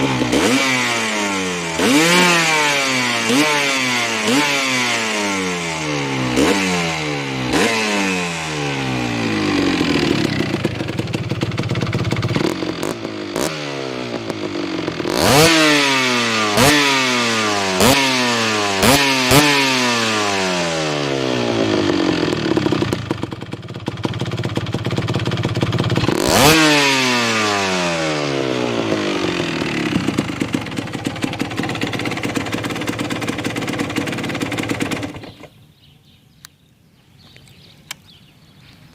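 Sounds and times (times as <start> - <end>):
two-stroke engine revving: 0.0 - 35.6.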